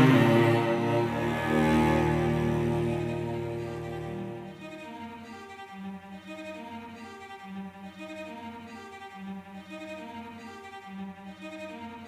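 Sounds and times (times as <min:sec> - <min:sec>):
bowed strings background music: 0:00.0 - 0:12.0
cello sustained notes: 0:00.0 - 0:12.0
violin sustained notes: 0:00.0 - 0:12.0.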